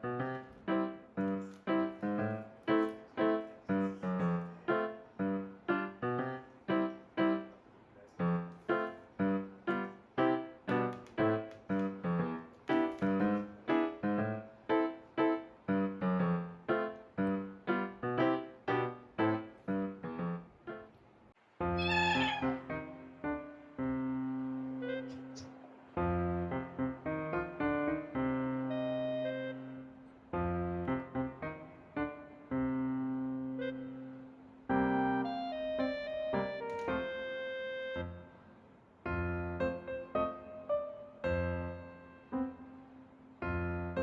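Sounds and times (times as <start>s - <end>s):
gentle keyboard melody: 0.0s - 21.0s, 21.6s - 44.0s.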